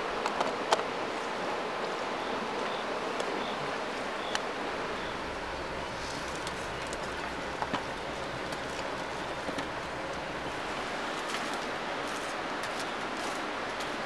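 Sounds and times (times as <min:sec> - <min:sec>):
campfire coals crackling: 0:00.0 - 0:14.0
rushing outdoor background noise: 0:00.0 - 0:14.0.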